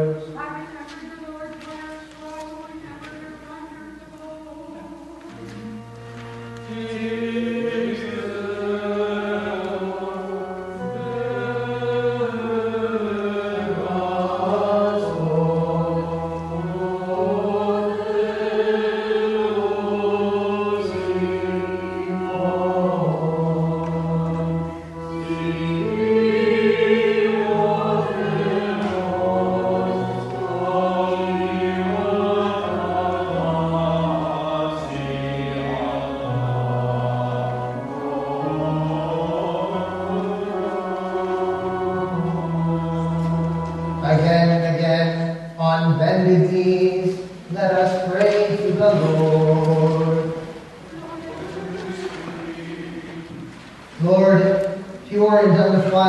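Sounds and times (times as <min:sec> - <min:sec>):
low voices chanting: 0:04.3 - 0:44.6, 0:47.0 - 0:56.0.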